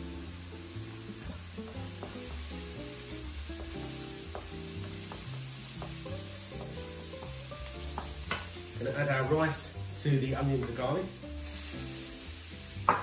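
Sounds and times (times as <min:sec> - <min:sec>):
background music: 0:00.0 - 0:13.0
onions sizzling in a pan: 0:00.0 - 0:13.0.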